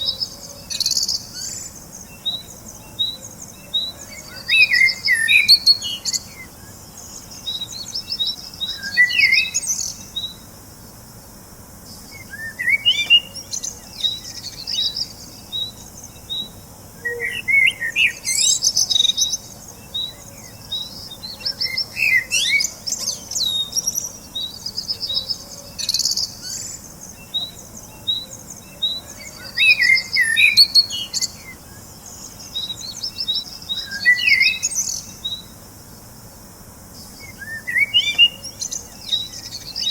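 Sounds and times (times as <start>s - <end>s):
birds chirping and singing: 0.0s - 10.5s, 11.9s - 35.6s, 37.0s - 39.9s.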